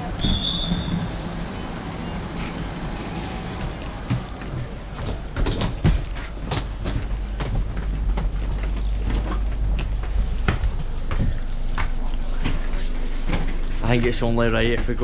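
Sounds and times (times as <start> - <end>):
train carriage rumble: 0.0 - 15.0
knocks and clatters: 2.2 - 15.0.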